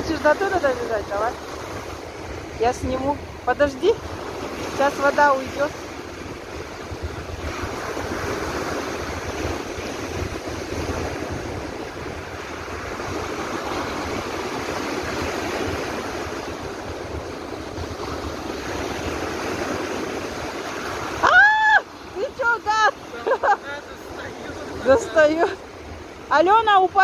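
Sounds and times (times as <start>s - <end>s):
lake waves breaking: 0.0s - 27.0s
wind buffeting microphone: 0.0s - 27.0s.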